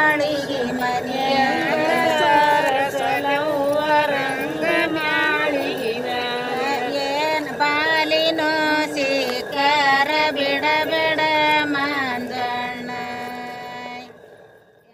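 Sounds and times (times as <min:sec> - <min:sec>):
women singing folk song: 0:00.0 - 0:14.3.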